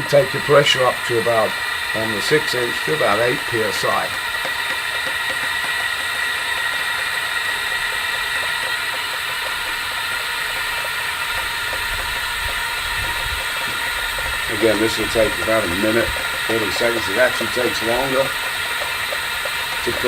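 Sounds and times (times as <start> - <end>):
compressed air hissing and whining: 0.0 - 20.0.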